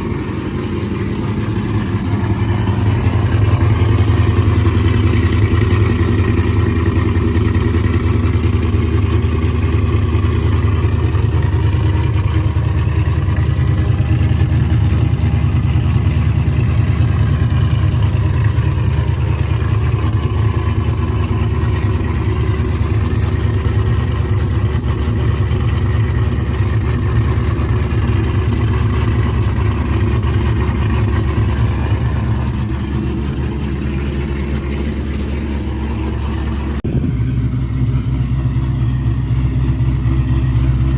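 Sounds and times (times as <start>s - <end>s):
motor vehicle engine droning: 0.0s - 40.9s.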